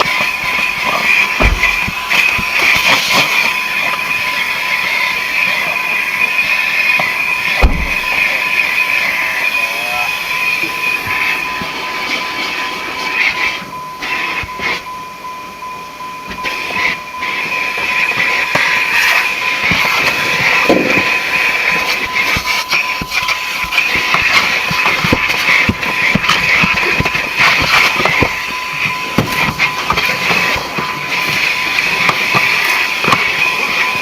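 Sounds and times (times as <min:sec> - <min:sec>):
vacuum hose whining and hissing: 0:00.0 - 0:34.0.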